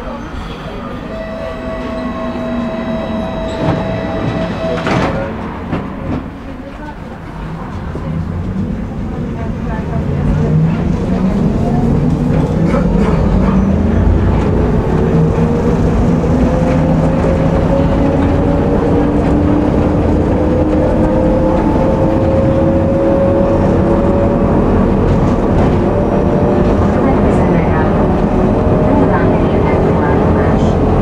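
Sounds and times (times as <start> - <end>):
tram motors whining: 0.0 - 31.0
wheels rumbling on track: 0.0 - 31.0.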